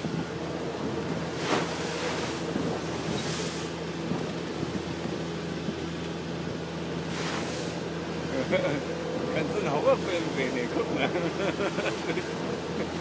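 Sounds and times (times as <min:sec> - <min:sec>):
waves and spray hissing: 0:00.0 - 0:13.0.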